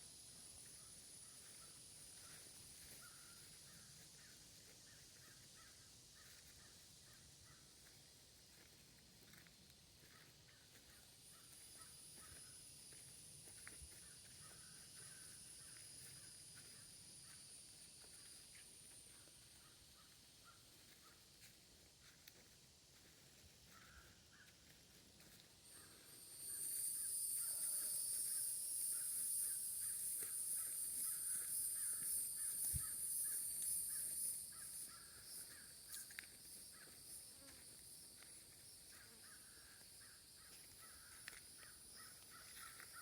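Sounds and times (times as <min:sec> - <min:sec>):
crickets trilling: 0:00.0 - 0:21.3, 0:22.0 - 0:43.0.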